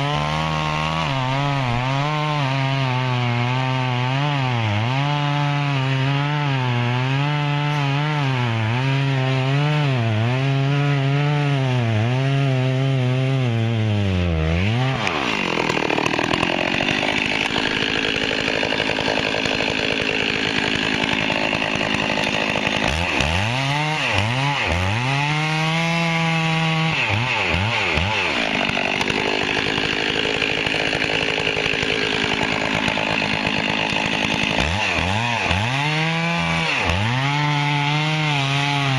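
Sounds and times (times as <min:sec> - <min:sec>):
chainsaw cutting a log: 0:00.0 - 0:38.9.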